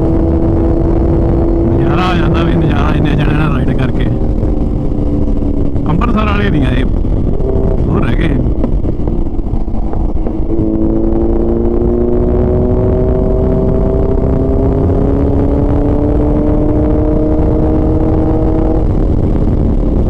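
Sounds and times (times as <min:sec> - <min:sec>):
motorcycle engine accelerating: 0:00.0 - 0:20.0
wind rumble on microphone: 0:00.0 - 0:20.0.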